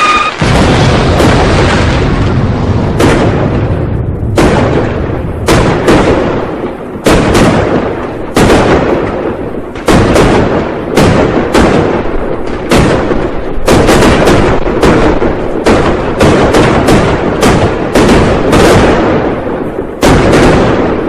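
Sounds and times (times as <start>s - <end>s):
firecrackers banging: 0.0s - 21.0s.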